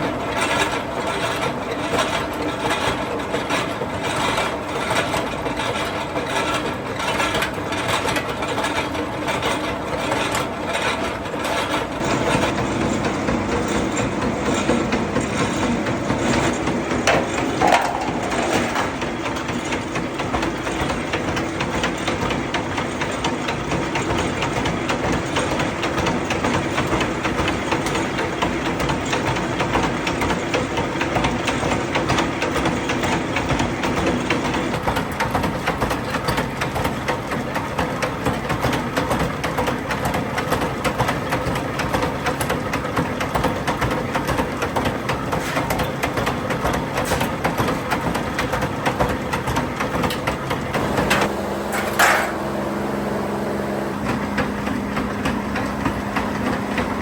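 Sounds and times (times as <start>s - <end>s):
machine knocking: 0.0s - 57.0s
metalworking machine drone: 0.0s - 57.0s.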